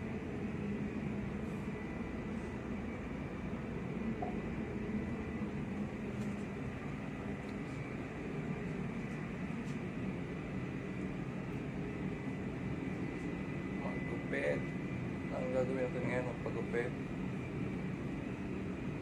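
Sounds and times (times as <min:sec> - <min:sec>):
low machinery drone: 0:00.0 - 0:19.0.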